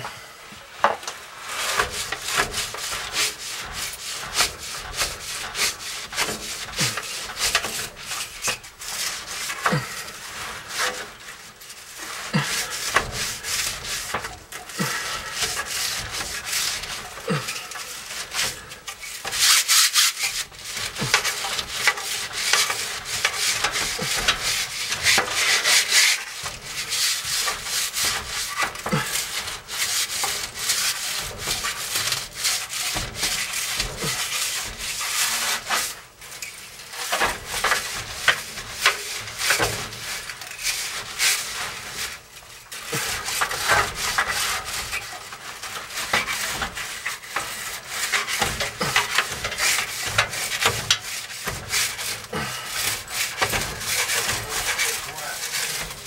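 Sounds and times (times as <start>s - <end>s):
brush scrubbing metal fins: 0.7s - 56.0s.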